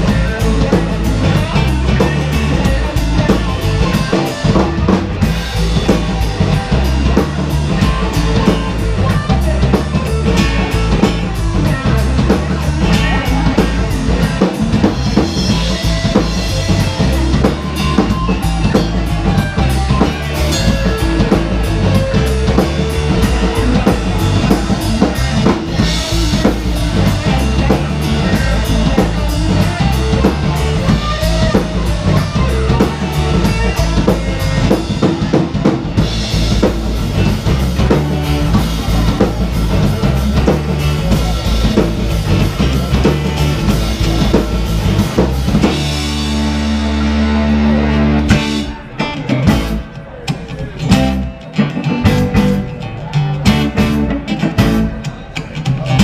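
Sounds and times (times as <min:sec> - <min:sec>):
drum kit beat: 0:00.0 - 0:56.0
electric and acoustic guitars: 0:00.0 - 0:56.0
live rock band playing: 0:00.0 - 0:56.0.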